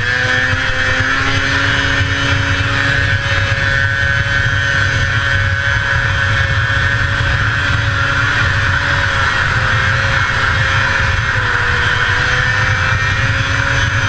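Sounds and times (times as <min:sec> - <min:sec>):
snowmobile engine at high revs: 0:00.0 - 0:14.0.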